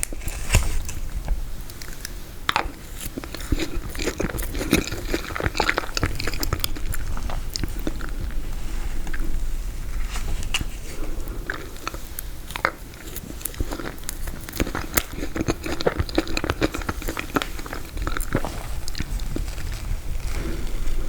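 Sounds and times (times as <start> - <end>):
chewing frozen cake: 0.0 - 21.0.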